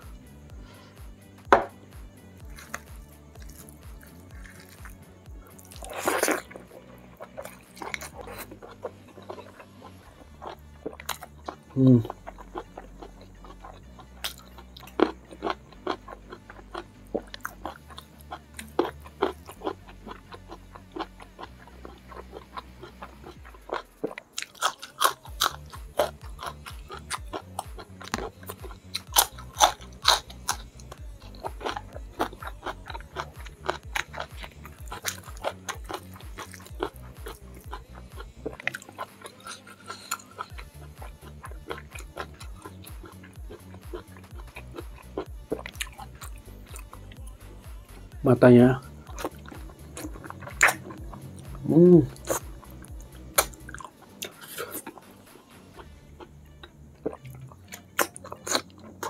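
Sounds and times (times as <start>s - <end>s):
sharp eating crunches: 2.4s - 59.0s
wet chewing and smacking: 2.4s - 59.0s.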